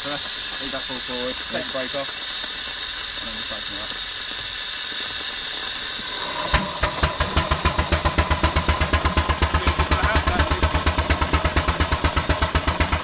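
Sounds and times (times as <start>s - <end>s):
steam engine exhaust chuffing: 0.0s - 13.0s
steam hissing: 0.0s - 13.0s.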